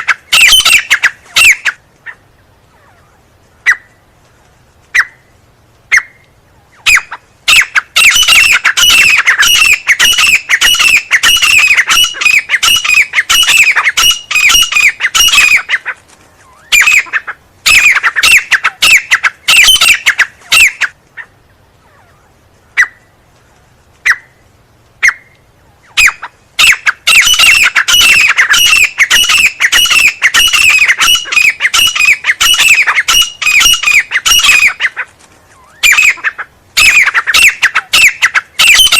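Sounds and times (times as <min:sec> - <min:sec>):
francolin calling: 0:00.0 - 0:04.1, 0:04.8 - 0:23.2, 0:24.0 - 0:38.9.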